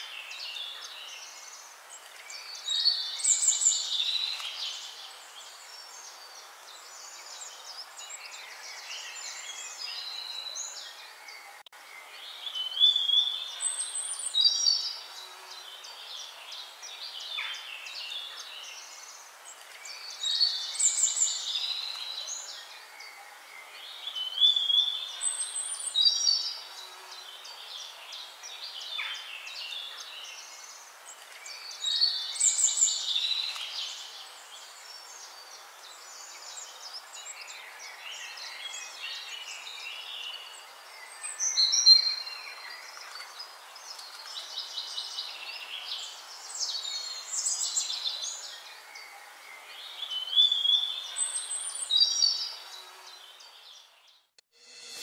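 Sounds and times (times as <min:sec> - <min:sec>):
birds singing and chirping: 0:00.0 - 0:54.3.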